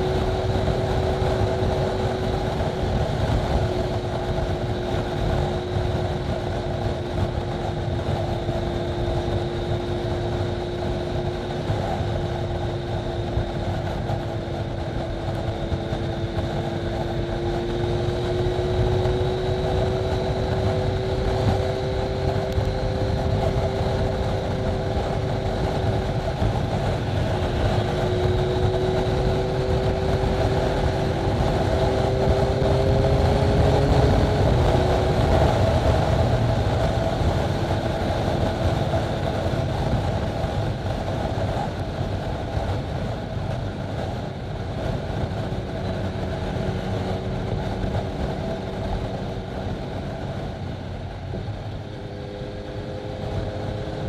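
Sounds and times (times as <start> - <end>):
motorcycle engine cruising: 0.0 - 54.0
wind rushing: 0.0 - 54.0.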